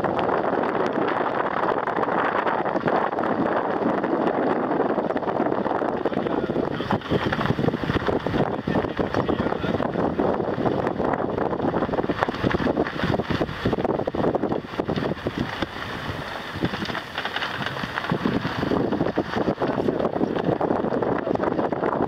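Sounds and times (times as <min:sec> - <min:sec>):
car driving on bumpy dirt track: 0:00.0 - 0:22.0
wind buffeting microphone: 0:00.0 - 0:22.0.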